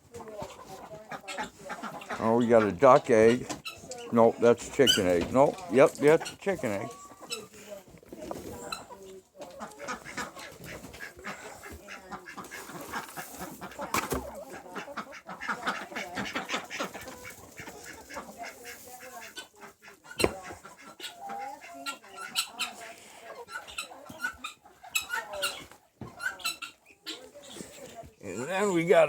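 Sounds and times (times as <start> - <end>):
ducks and chickens calling: 0.0 - 29.0.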